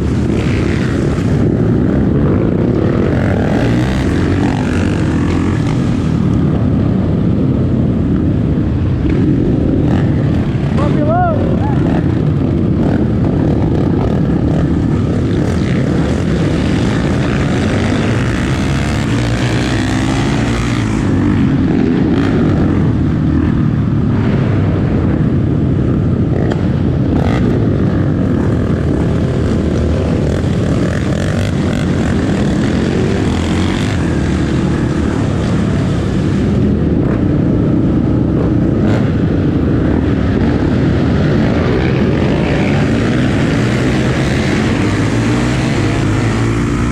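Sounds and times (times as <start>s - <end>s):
wind noise on microphone: 0.0s - 46.9s.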